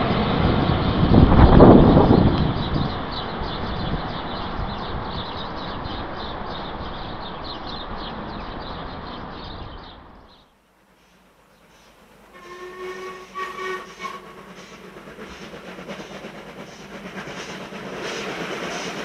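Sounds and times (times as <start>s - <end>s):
train coaches rumbling on rails: 0.0s - 19.0s.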